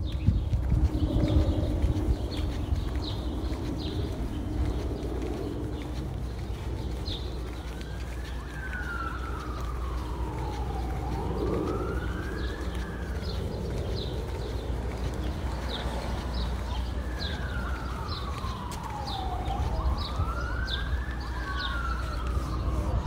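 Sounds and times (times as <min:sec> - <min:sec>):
emergency vehicle siren wailing: 0:00.0 - 0:23.0
traffic rumble: 0:00.0 - 0:23.0.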